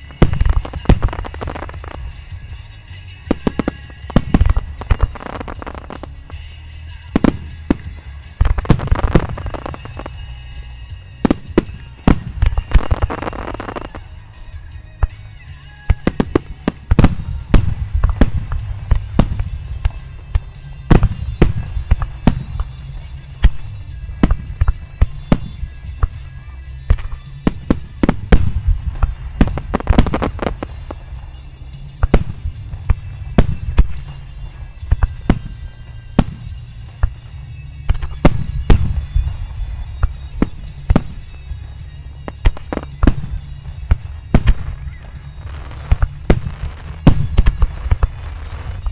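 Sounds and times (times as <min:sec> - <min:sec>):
fireworks bursting: 0:00.0 - 0:48.9
low rumble: 0:00.0 - 0:48.9
music playing: 0:00.0 - 0:48.9.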